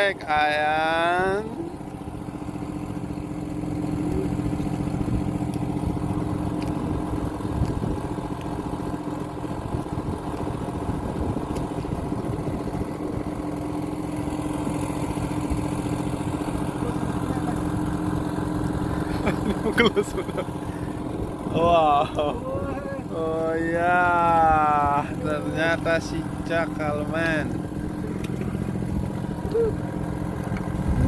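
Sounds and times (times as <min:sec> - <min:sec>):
boat engine droning hum: 0:00.0 - 0:31.0.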